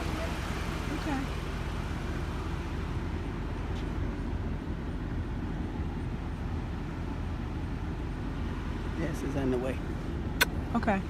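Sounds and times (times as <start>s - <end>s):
low rumble with faint hum: 0.0s - 11.0s.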